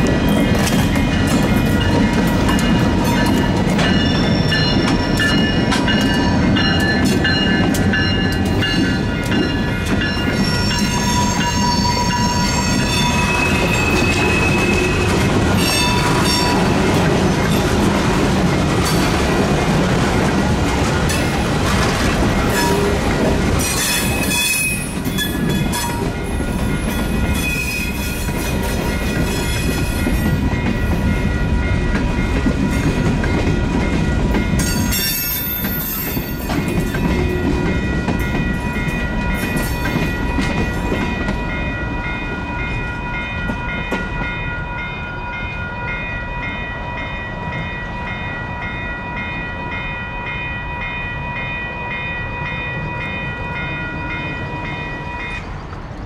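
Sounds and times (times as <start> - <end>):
crossing warning bell: 0.0 - 56.0
train wheels rumbling and clacking: 0.0 - 56.0.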